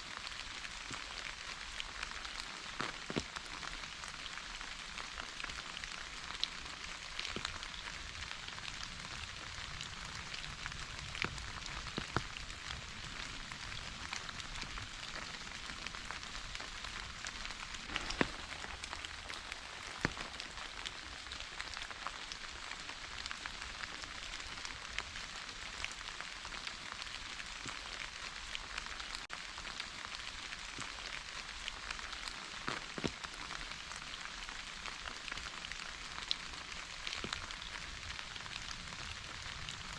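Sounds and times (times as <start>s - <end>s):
steady rain hiss: 0.0s - 39.9s
water drips ticking: 0.2s - 39.7s.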